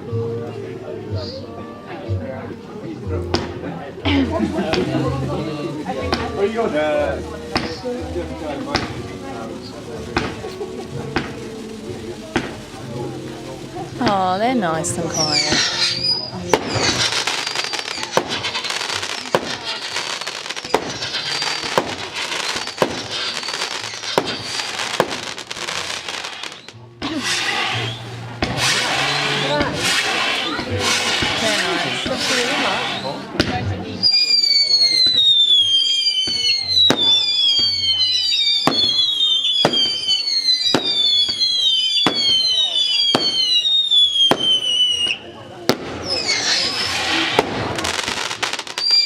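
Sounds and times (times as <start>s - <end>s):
fireworks crackling: 2.4s - 49.0s
fireworks banging: 3.2s - 49.0s.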